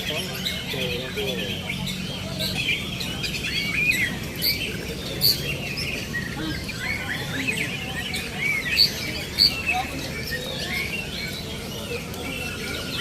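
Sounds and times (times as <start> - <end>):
songbirds chirping and twittering: 0.0 - 13.0.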